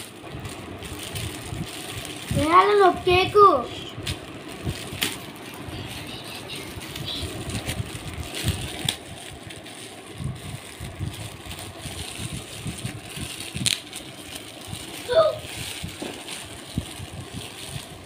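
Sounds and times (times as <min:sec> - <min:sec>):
foil wrap crinkling and tearing: 0:00.0 - 0:18.0.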